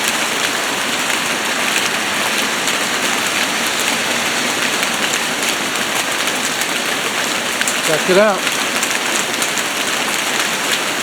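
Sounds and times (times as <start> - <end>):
heavy rain pouring: 0.0 - 11.0
raindrops striking surfaces: 0.0 - 11.0.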